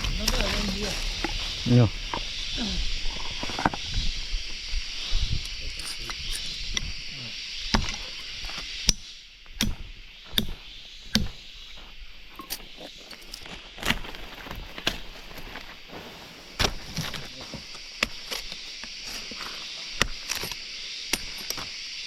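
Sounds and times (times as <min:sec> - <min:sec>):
high-pitched hiss: 0:00.0 - 0:22.0.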